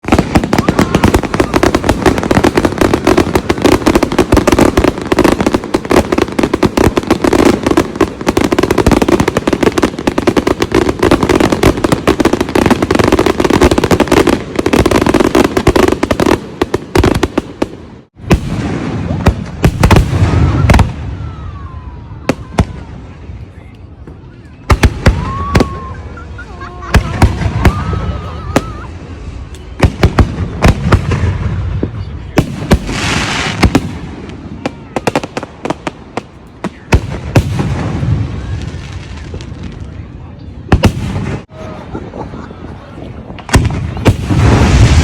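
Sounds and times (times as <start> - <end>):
fireworks crackling bangs: 0.0 - 21.4, 22.2 - 41.6, 43.2 - 45.0.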